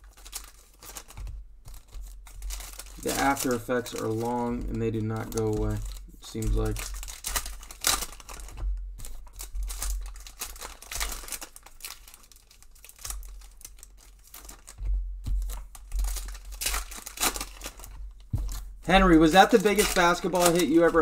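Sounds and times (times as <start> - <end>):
foil wrappers crinkling and tearing: 0.0 - 21.0.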